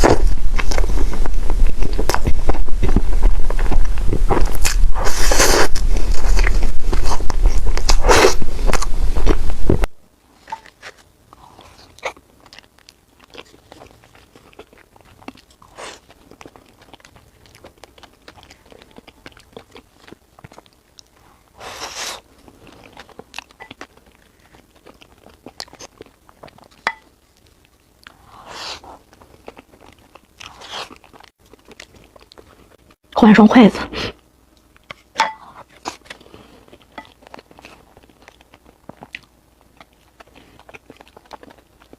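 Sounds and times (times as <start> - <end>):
close-miked eating and chewing: 0.0 - 41.9.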